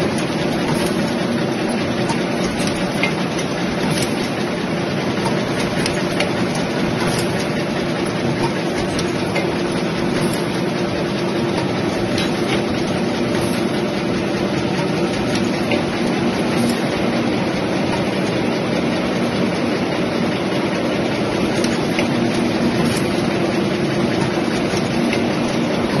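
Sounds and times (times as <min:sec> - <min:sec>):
machinery mechanical din: 0:00.0 - 0:26.0
steady hum: 0:00.0 - 0:26.0.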